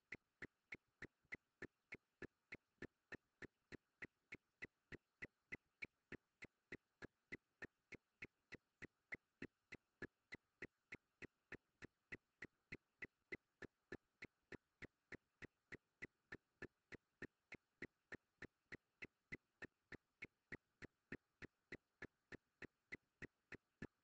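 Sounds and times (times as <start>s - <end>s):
faint regular ticking: 0.1s - 24.0s.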